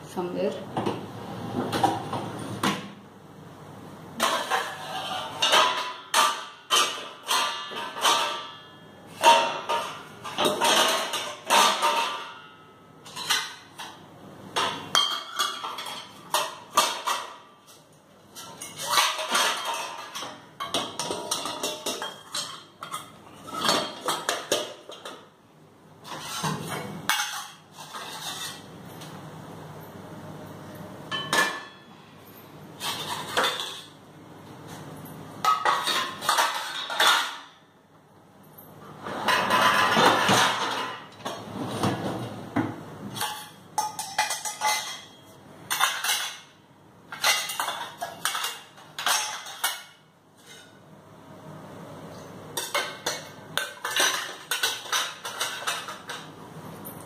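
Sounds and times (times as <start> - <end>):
pots and plates clanking in dishwasher: 0.8 - 3.0, 4.1 - 25.4, 26.0 - 29.2, 31.0 - 32.0, 32.8 - 34.0, 34.8 - 37.6, 38.6 - 50.8, 52.4 - 57.0.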